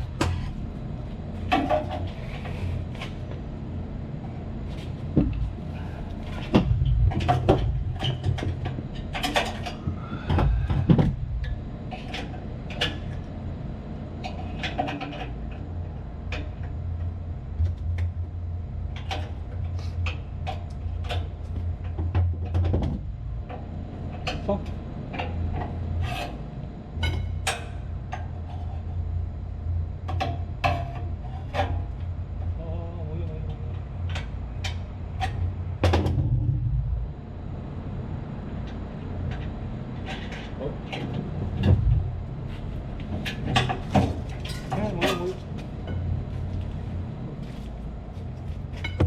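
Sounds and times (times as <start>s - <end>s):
low machinery hum: 0.0s - 49.0s.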